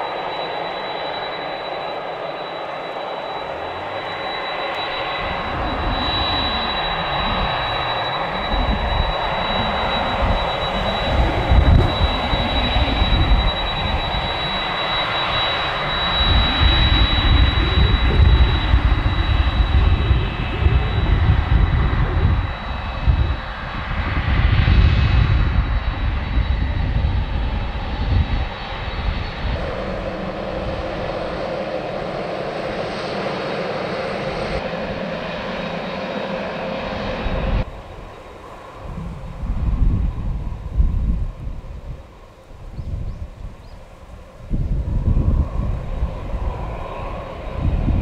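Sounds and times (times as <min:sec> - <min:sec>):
jet engines whining and rumbling: 0:00.0 - 0:48.0.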